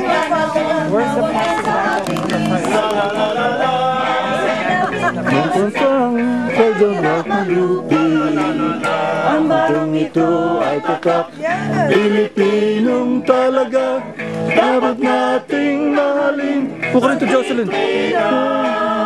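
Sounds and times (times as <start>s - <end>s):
person singing: 0.0s - 16.7s, 17.8s - 19.0s
guitar accompaniment: 0.0s - 19.0s.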